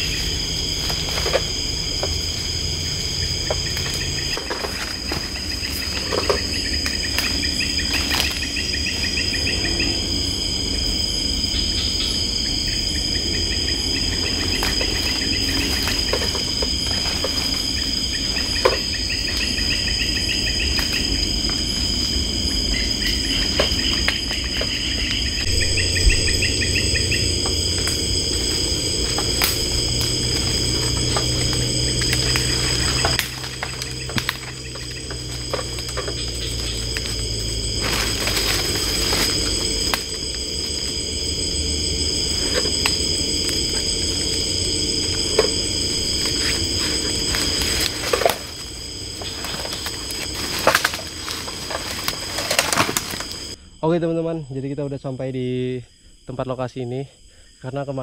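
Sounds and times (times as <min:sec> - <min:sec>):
crackles in undergrowth: 0:00.0 - 0:53.6
high-pitched insect drones: 0:00.0 - 0:58.0
pulsing insect chirp: 0:00.0 - 0:58.0.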